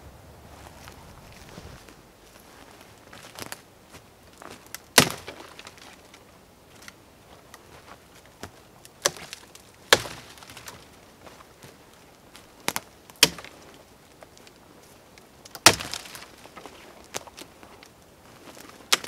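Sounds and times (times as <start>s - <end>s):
rustling: 0.0s - 19.0s
dry branches snapping: 0.6s - 19.0s.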